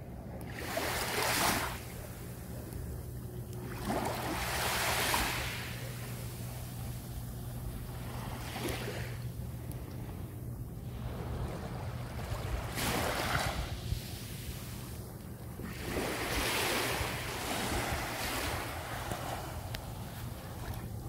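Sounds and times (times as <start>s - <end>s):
small waves washing onto shore: 0.4s - 2.5s, 3.6s - 10.2s, 10.8s - 21.0s
wind rumbling on microphone: 3.8s - 21.0s.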